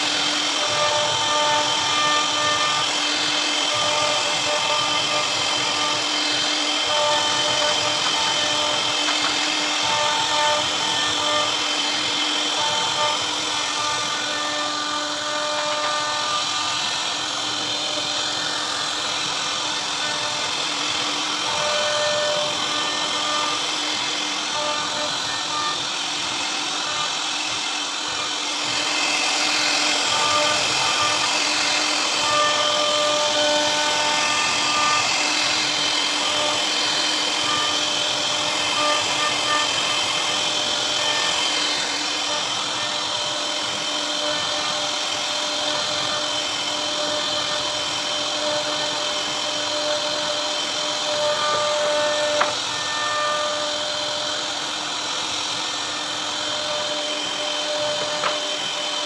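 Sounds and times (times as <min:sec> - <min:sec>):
router spindle whining: 0:00.0 - 0:59.0.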